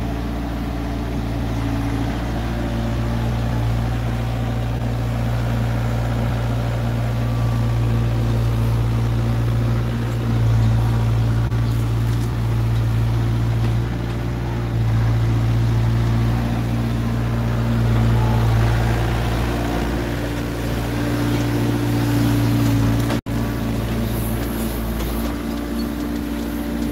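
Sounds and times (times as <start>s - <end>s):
excavator diesel engine droning: 0.0s - 26.9s.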